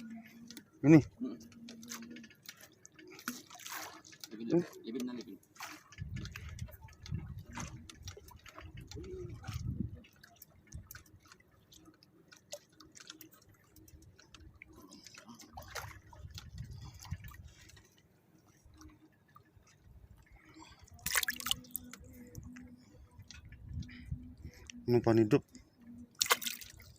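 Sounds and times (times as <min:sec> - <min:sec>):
water dripping and splashing: 0:00.0 - 0:26.9.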